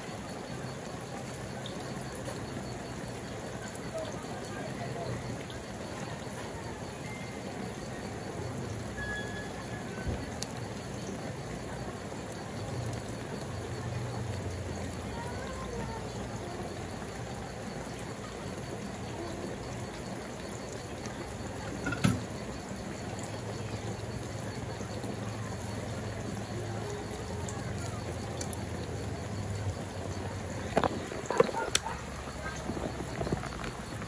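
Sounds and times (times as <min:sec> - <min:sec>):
food bubbling in a pan: 0:00.0 - 0:34.0.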